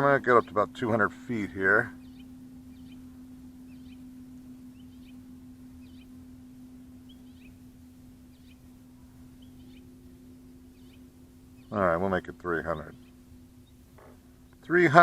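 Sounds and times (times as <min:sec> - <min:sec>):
faint bird chirps: 0:00.0 - 0:14.8
low hum: 0:00.0 - 0:15.0.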